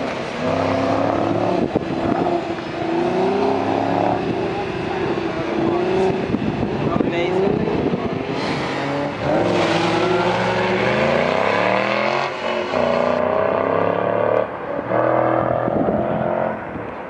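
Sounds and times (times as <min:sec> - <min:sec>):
car engine revving hard: 0:00.0 - 0:16.7.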